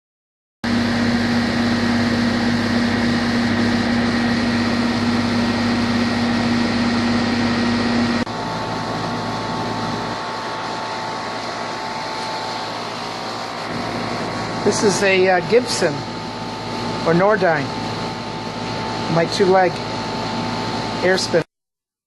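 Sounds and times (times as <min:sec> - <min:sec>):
condenser fan air rush: 0:00.6 - 0:21.5
low hum: 0:00.7 - 0:20.0.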